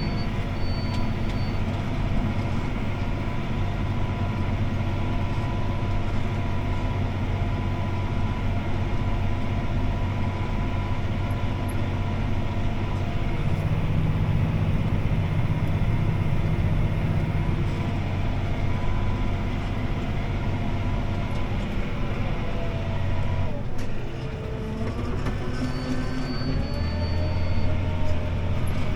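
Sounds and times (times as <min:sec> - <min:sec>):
tractor engine running under load: 0:00.0 - 0:28.9.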